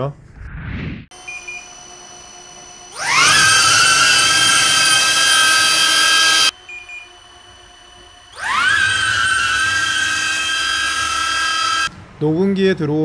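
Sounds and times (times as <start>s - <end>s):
drone propellers whining: 1.1s - 11.9s.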